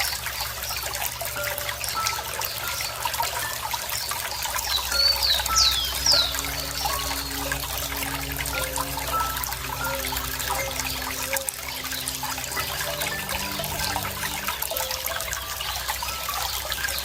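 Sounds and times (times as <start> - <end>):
water trickling and bubbling: 0.0 - 17.0
bird whistling: 1.4 - 15.6.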